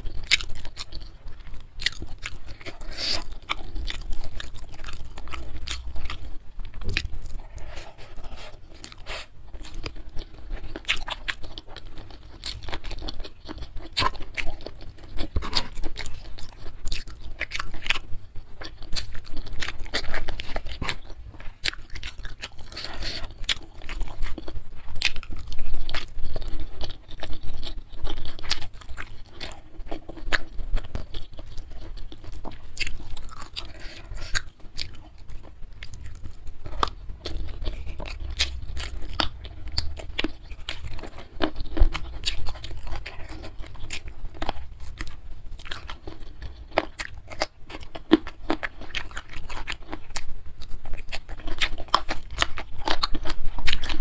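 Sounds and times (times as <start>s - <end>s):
close chewing crunches: 0.0s - 54.0s.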